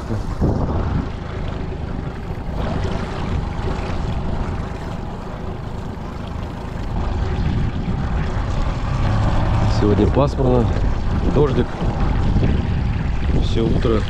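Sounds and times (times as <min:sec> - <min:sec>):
small boat motor humming: 0:00.0 - 0:14.0.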